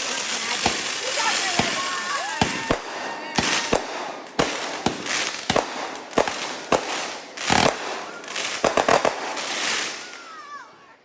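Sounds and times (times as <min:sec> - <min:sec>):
fireworks bangs: 0:00.0 - 0:10.8
fireworks crackling hiss: 0:00.0 - 0:11.0.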